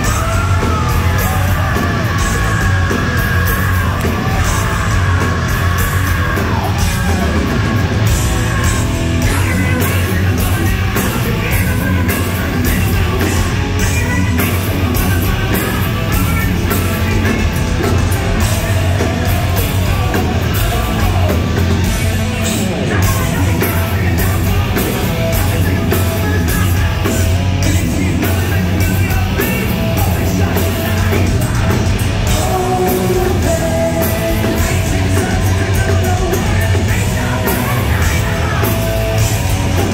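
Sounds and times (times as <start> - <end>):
hard rock band playing: 0.0 - 39.9
person singing and yelling: 0.0 - 39.9.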